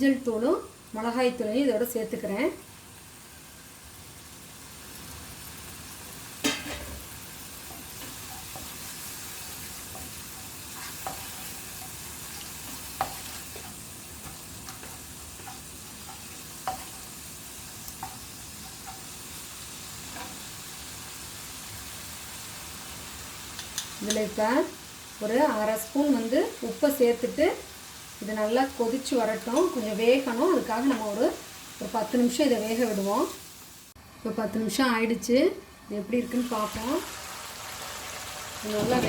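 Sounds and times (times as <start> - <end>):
meat sizzling in a pan: 0.4 - 34.0, 36.2 - 39.0.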